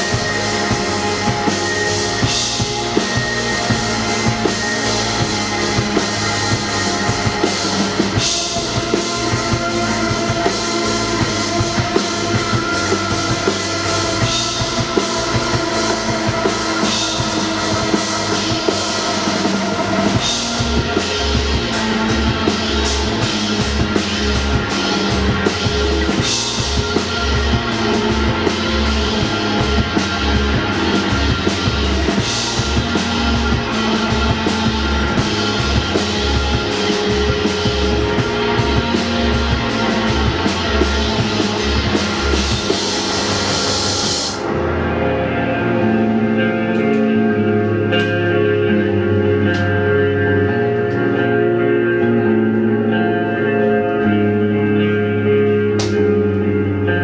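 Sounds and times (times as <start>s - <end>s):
pulsing bass: 0.0s - 57.0s
rock band playing live: 0.0s - 57.0s.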